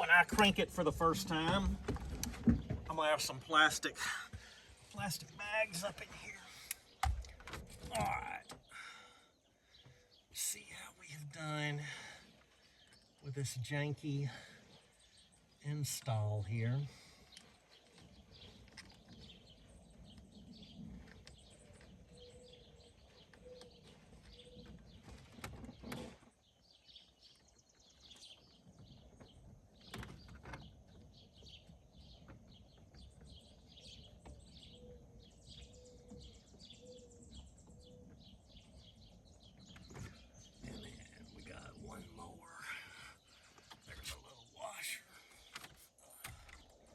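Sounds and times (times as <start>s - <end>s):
faint birds chirping: 0.0s - 46.9s.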